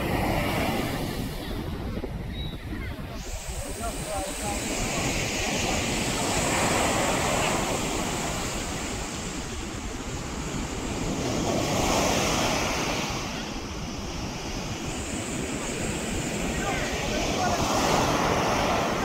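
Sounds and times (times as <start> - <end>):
sea surf breaking on shore: 0.0 - 19.0.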